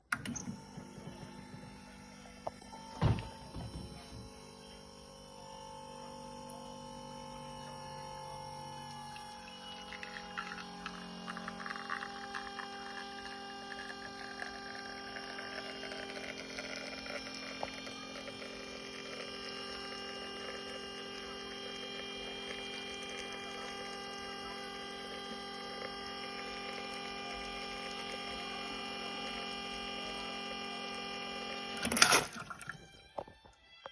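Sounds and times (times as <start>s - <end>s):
espresso machine pump humming: 0.0s - 33.3s.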